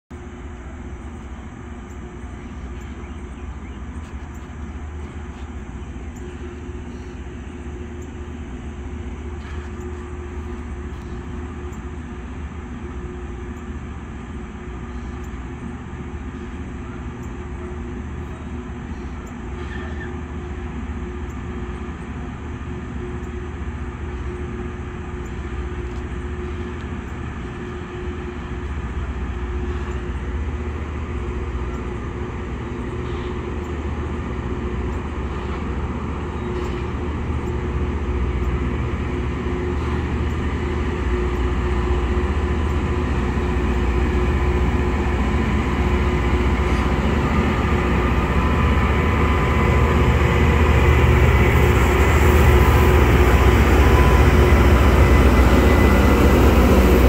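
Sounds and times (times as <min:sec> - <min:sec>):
train mechanical rumble: 0:00.0 - 0:57.0.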